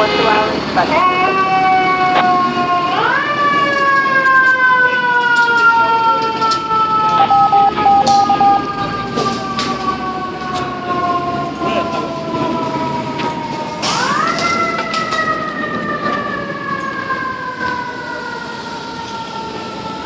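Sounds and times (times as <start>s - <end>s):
mechanical siren wailing: 0.0s - 20.0s.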